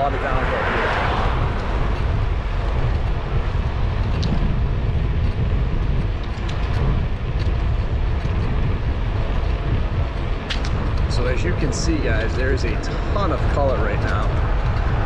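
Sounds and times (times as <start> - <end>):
wind rushing across microphone: 0.0 - 15.0.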